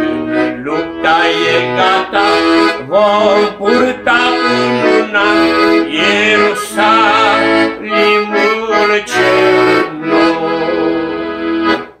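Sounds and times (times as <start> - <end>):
accordion playing hymn chords: 0.0 - 12.0.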